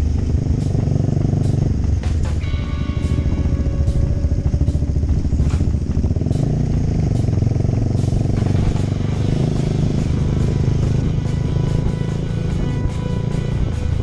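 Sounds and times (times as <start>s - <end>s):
motorcycle engine revving: 0.0s - 14.0s
sharp ticks: 0.0s - 14.0s.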